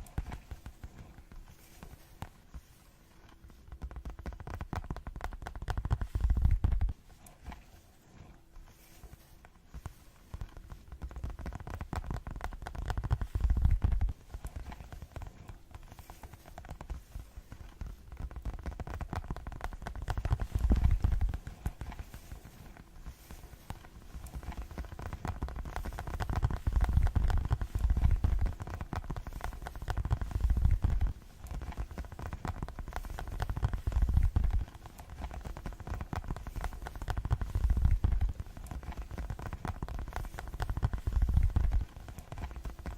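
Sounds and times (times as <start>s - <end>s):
fingertip tapping: 3.4s - 7.6s, 9.8s - 42.9s.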